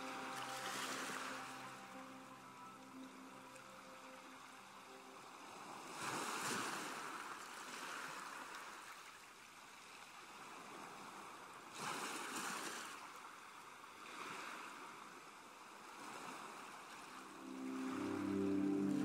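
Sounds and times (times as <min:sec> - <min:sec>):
rushing swishing water: 0:00.0 - 0:19.0.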